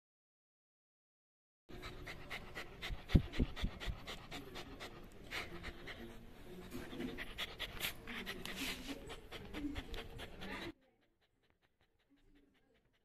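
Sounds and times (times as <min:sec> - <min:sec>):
puppy panting: 0:01.7 - 0:13.0.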